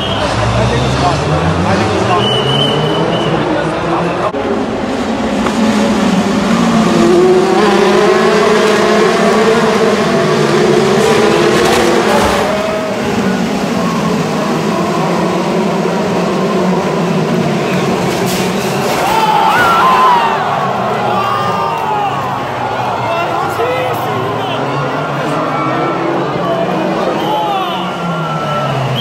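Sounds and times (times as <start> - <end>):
race car engines at high revs: 0.0 - 29.0.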